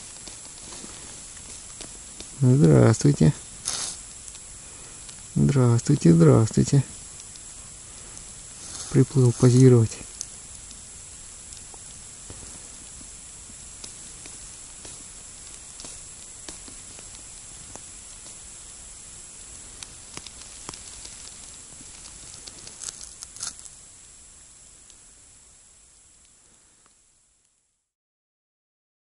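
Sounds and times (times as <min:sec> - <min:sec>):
steady hiss: 0:00.0 - 0:27.9.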